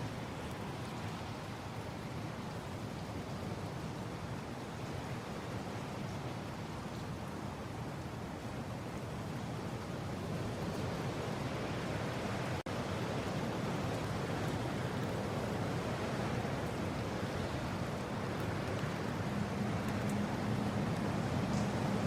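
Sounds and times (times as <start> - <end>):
rushing mountain wind: 0.0 - 22.0.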